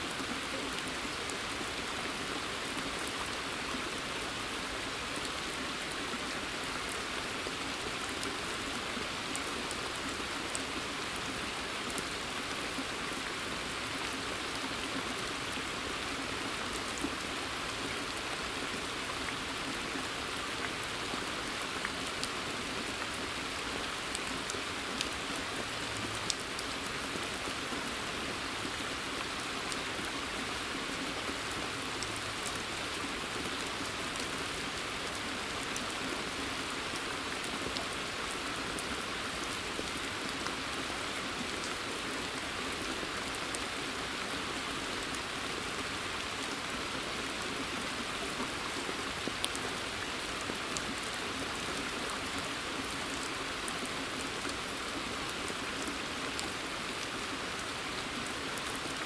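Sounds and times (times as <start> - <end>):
rain on leaves and water: 0.0 - 59.0.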